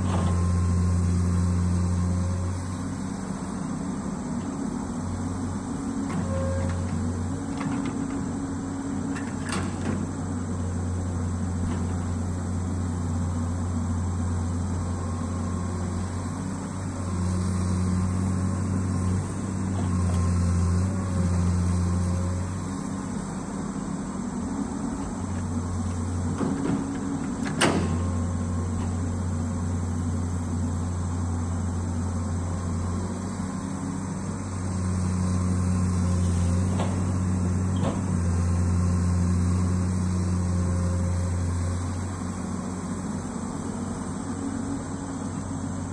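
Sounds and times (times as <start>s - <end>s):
excavator diesel engine droning: 0.0s - 45.9s.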